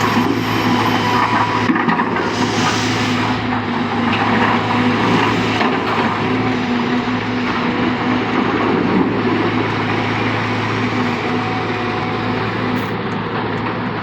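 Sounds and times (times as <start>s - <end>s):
heavy diesel machinery running: 0.0s - 14.0s.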